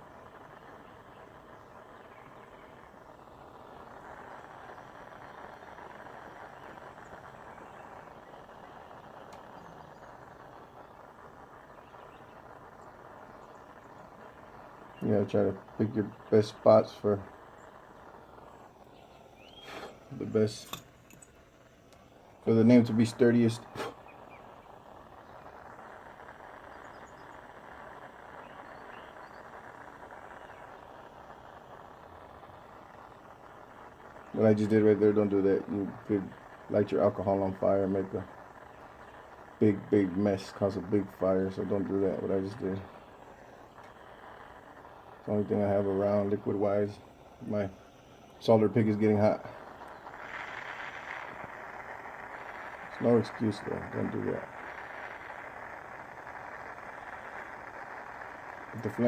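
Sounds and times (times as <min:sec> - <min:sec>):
torch flame hissing: 0:00.0 - 0:59.0.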